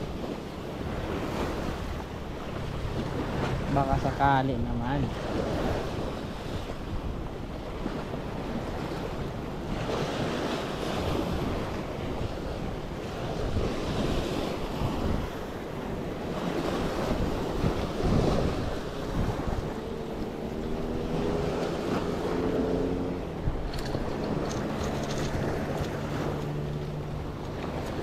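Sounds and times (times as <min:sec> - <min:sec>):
small waves washing: 0:00.0 - 0:28.0
wind buffeting microphone: 0:00.0 - 0:28.0.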